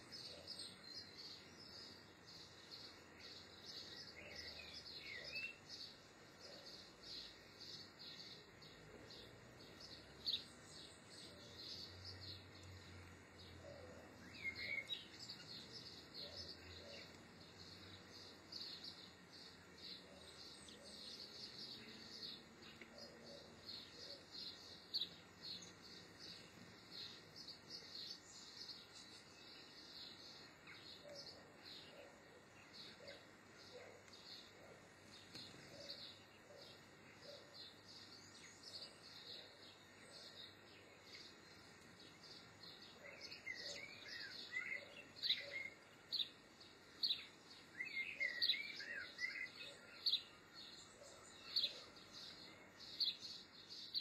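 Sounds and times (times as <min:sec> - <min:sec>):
faint outdoor hiss: 0:00.0 - 0:54.0.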